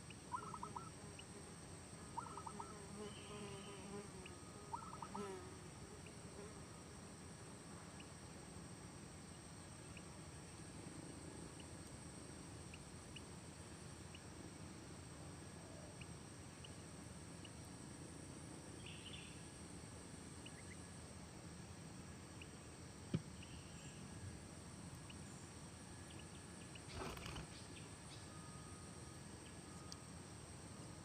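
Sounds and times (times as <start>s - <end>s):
steady low hiss: 0.0s - 31.0s.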